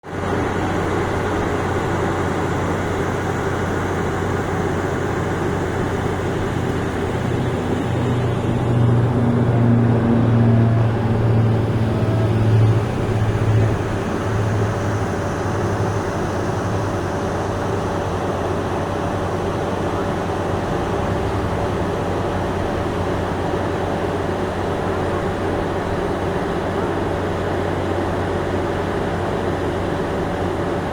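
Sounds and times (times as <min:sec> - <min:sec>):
propeller airplane engines droning: 0:00.0 - 0:30.9.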